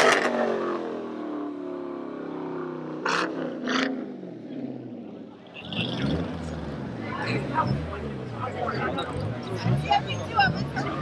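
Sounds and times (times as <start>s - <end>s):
car engine: 0.0s - 11.0s.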